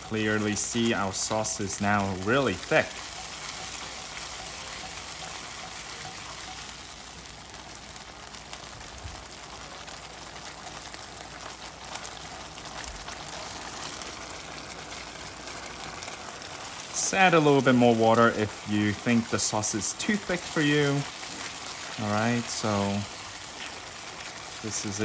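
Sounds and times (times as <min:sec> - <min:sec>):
sauce bubbling and popping: 0:00.0 - 0:25.0
spatula stirring sauce: 0:00.0 - 0:25.0.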